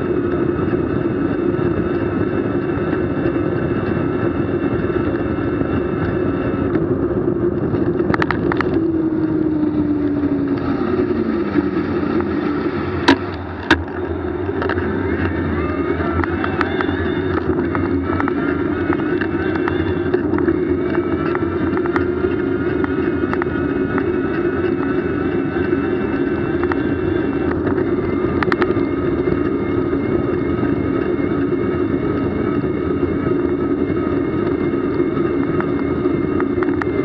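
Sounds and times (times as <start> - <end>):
vehicle running noise: 0.0 - 37.0.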